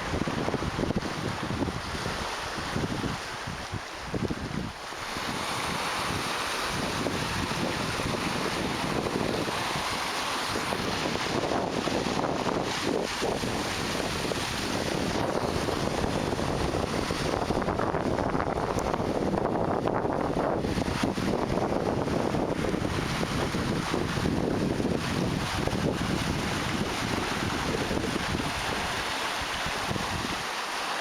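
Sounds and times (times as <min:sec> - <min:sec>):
wind buffeting microphone: 0:00.0 - 0:30.5
waves breaking on rocks: 0:00.0 - 0:31.0.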